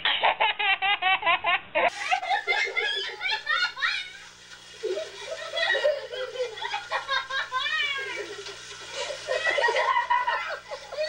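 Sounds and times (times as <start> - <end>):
baby laughing: 0.0 - 11.0
other laughter: 0.0 - 11.0.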